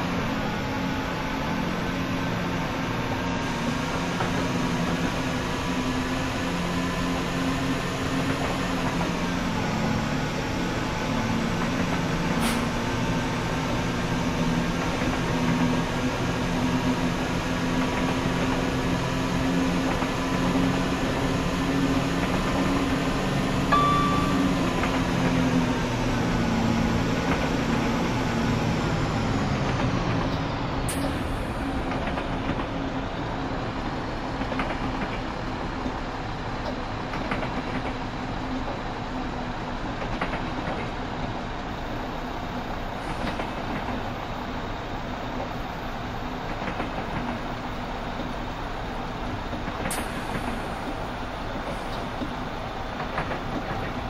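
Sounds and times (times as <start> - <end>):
diesel train engine with whine: 0.0 - 54.0.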